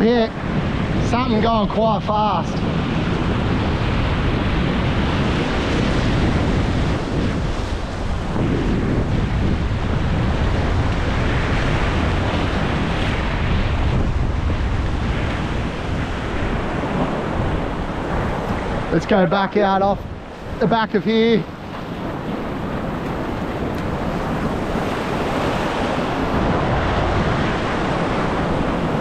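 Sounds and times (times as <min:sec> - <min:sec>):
surf washing over rock: 0:00.0 - 0:29.0
wind buffeting microphone: 0:00.0 - 0:29.0.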